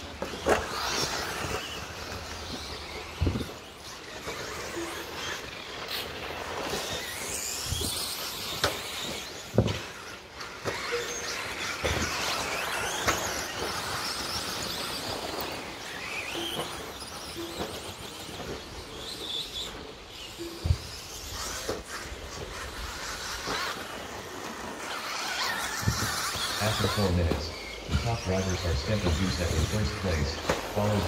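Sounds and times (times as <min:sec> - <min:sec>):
rc truck motors whining: 0:00.0 - 0:31.0.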